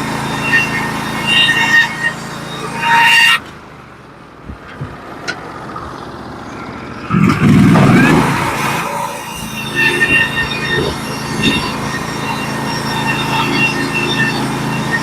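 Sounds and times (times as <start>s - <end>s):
bandsaw mill engine rumble: 0.0s - 15.0s.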